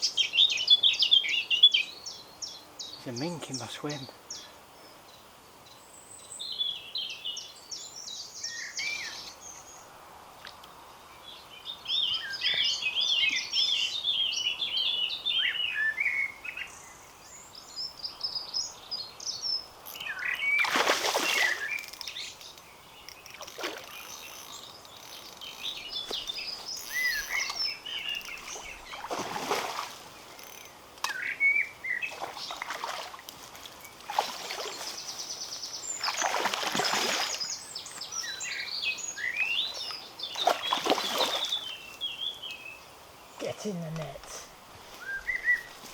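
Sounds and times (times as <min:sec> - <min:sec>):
songbirds singing and chirping: 0:00.0 - 0:45.9.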